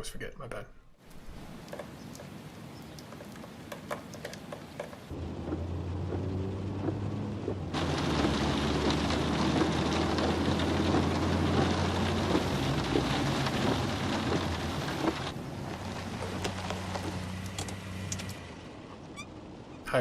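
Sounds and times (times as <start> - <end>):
heavy rain falling: 1.4 - 19.7.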